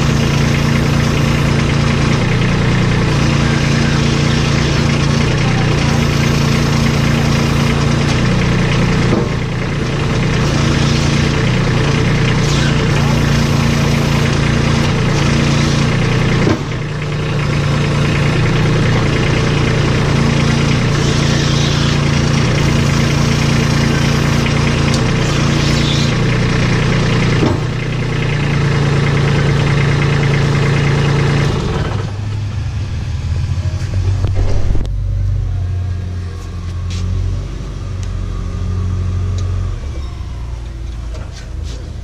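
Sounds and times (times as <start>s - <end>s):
tractor diesel engine idling: 0.0s - 42.0s.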